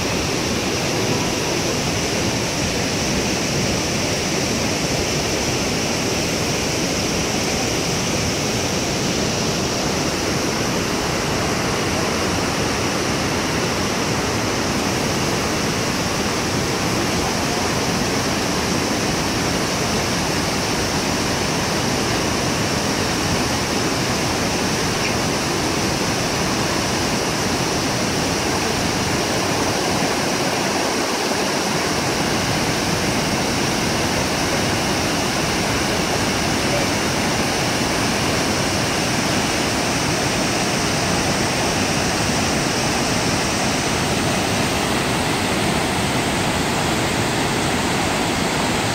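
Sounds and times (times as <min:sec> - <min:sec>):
waterfall roaring: 0:00.0 - 0:48.9.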